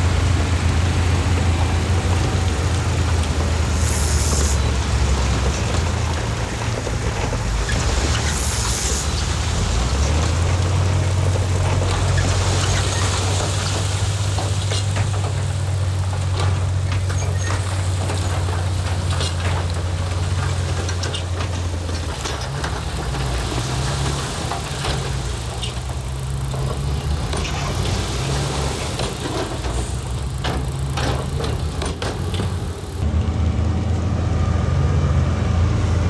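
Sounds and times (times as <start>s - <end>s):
knocks and clatter: 0.0s - 33.3s
heavy diesel engine running: 0.0s - 36.0s.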